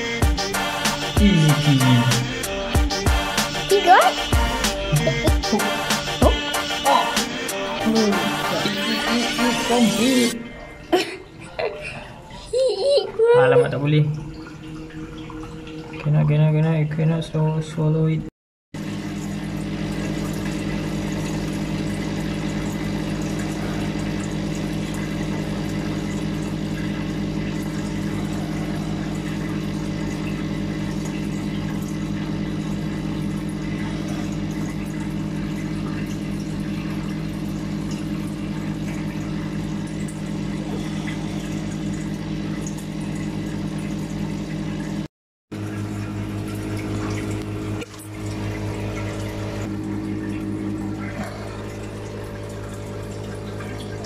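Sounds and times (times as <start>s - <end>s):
water churning and bubbling: 0.0s - 10.7s, 12.1s - 18.2s, 18.8s - 54.0s
aquarium filter pump humming: 0.0s - 54.0s.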